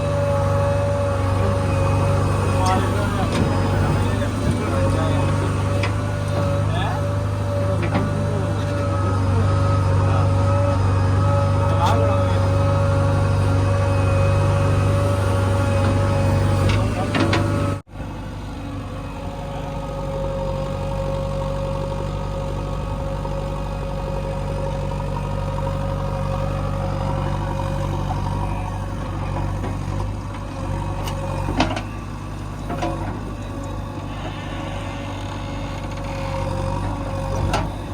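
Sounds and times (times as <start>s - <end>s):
backhoe diesel engine running: 0.0s - 37.9s.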